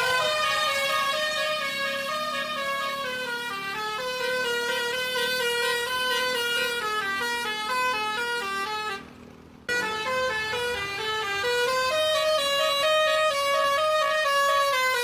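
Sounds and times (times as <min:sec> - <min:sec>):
bus horn playing a melody: 0:00.0 - 0:15.0.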